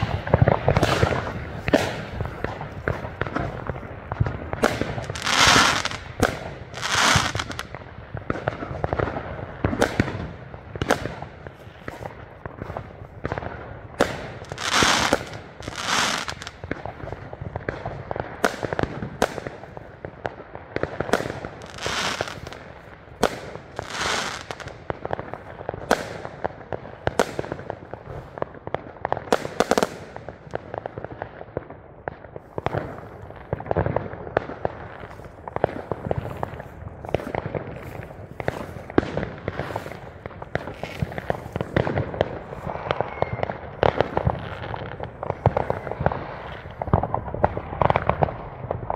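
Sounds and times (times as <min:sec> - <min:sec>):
fireworks bangs and pops: 0:00.0 - 0:48.9.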